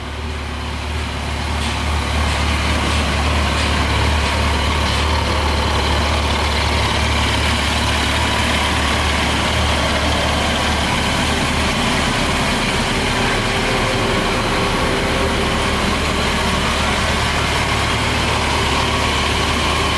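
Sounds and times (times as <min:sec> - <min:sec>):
motorcycle engine idling: 0:00.0 - 0:19.9.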